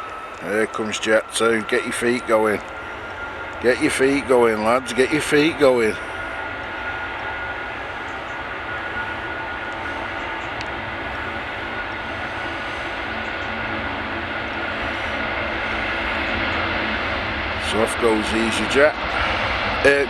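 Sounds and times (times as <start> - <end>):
distant jet engines roaring: 0.0 - 20.0.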